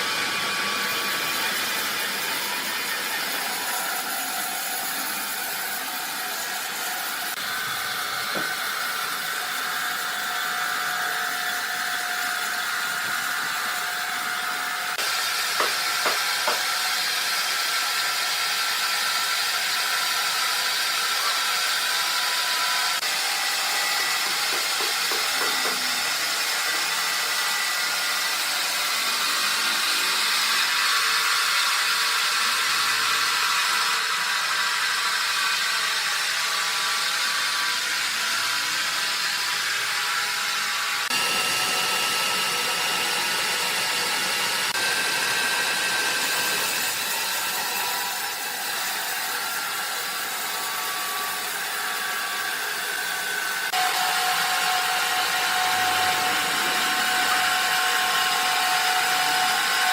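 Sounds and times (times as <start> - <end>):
sawmill machinery hissing and whining: 0.0 - 59.9.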